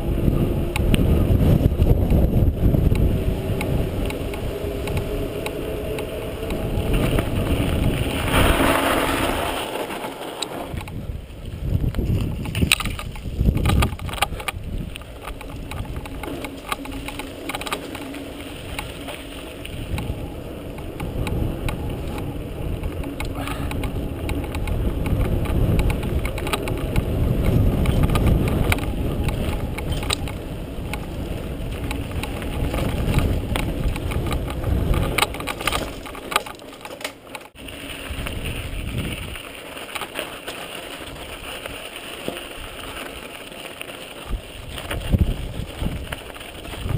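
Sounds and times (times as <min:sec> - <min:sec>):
wind buffeting microphone: 0:00.0 - 0:43.4, 0:44.1 - 0:46.9
bike rattles and clicks: 0:00.0 - 0:46.9
tyres rolling over dirt: 0:00.0 - 0:46.9.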